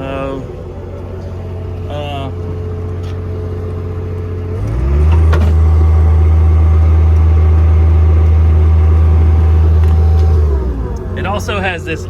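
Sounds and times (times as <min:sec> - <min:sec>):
air compressor engine running: 0:00.0 - 0:12.0.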